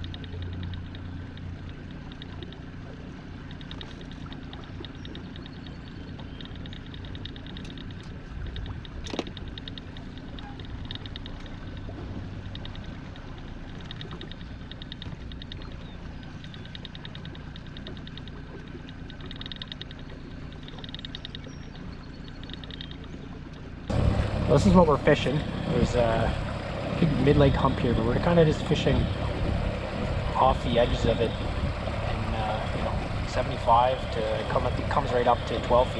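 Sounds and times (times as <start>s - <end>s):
outboard motor droning: 0.0s - 35.9s.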